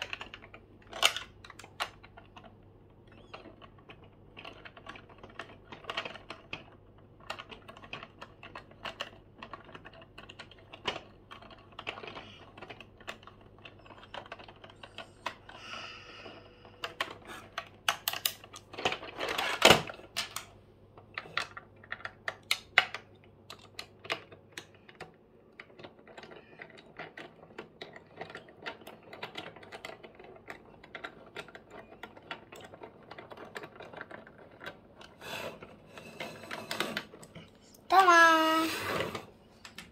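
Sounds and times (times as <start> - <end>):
plastic toy clicks and knocks: 0.0 - 39.9.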